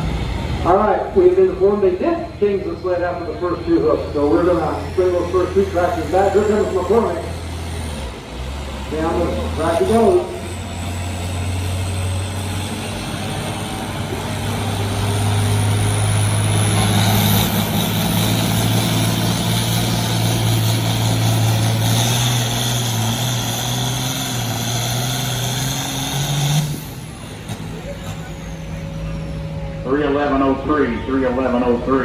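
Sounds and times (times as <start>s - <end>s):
tractor engine under heavy load: 0.0s - 32.0s.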